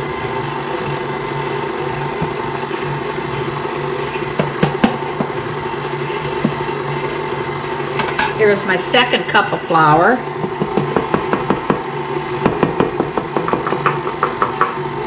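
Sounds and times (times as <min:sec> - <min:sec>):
stand mixer churning batter: 0:00.0 - 0:15.0.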